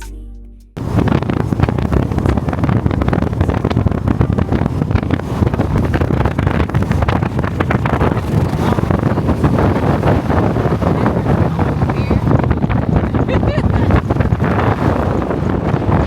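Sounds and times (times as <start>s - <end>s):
wind buffeting microphone: 0.8s - 16.0s.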